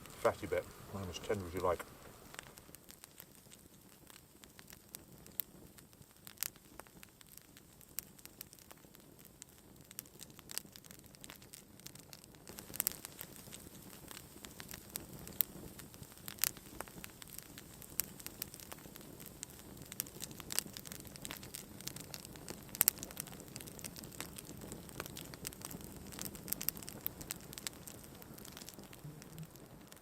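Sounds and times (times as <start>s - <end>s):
campfire crackling: 0.0s - 30.0s
fire popping: 0.0s - 30.0s.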